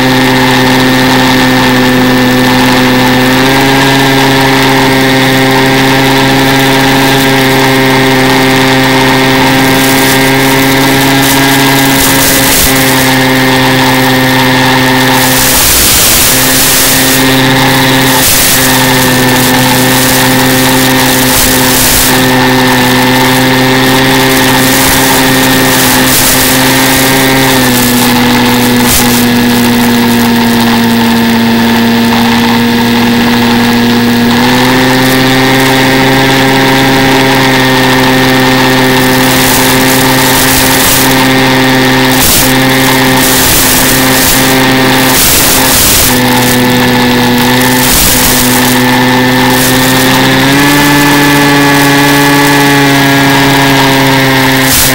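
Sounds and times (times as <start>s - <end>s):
electric motor and propeller whine: 0.0s - 54.9s.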